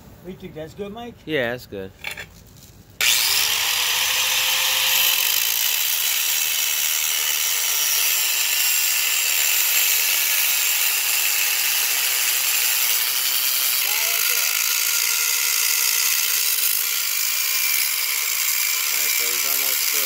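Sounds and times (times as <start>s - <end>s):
angle grinder cutting pipe: 3.0s - 20.0s.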